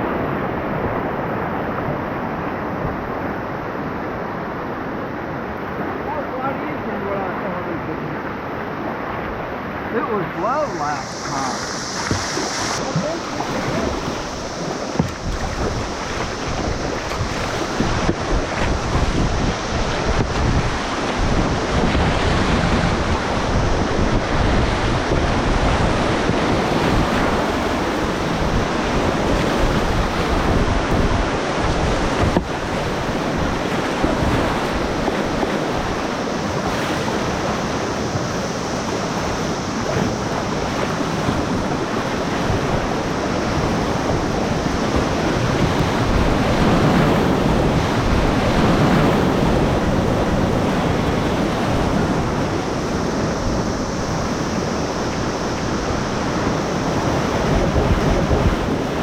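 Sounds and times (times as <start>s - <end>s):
river rapids rushing: 0.0s - 59.0s
wind buffeting microphone: 0.0s - 59.0s.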